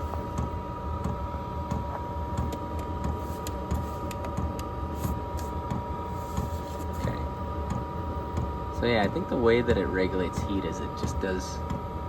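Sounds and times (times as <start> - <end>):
blower fan whine: 0.0 - 12.0
heater combustion rumble: 0.0 - 12.0.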